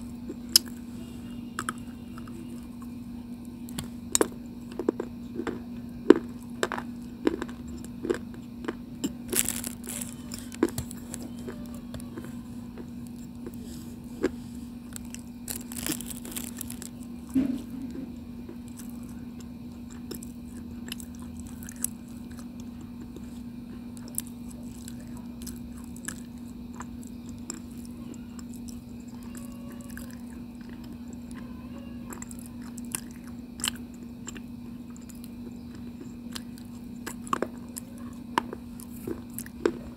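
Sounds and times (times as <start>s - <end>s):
steady low hum: 0.0s - 39.9s
crunching and chewing stone: 0.2s - 0.8s, 1.6s - 39.9s.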